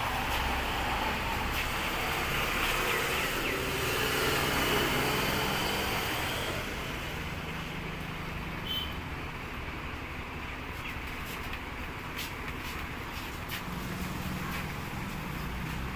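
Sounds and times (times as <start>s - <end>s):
traffic rumble and hiss: 0.0s - 15.9s.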